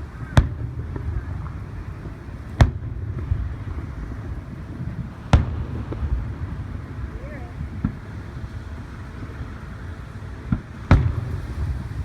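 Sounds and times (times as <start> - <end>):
low rumble: 0.0 - 9.8
fireworks bangs: 0.0 - 12.0.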